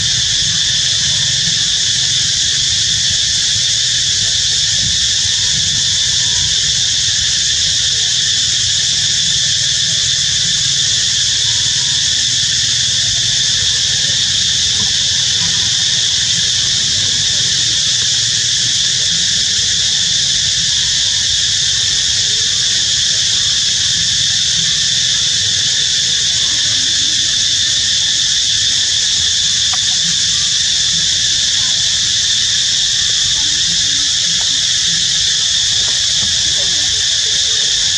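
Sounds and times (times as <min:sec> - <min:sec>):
insect chorus drone: 0:00.0 - 0:37.9.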